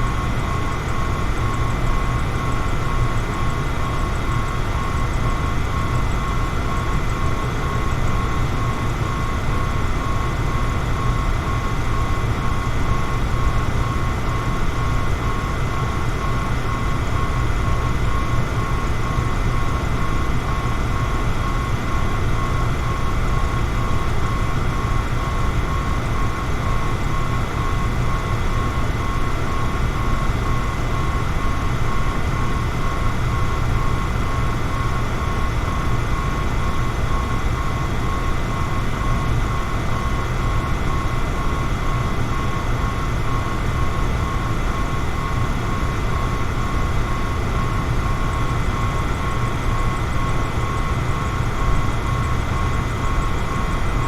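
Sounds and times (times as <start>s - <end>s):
electric fan rush of air: 0.0s - 54.0s
faint steady whine: 0.0s - 54.0s.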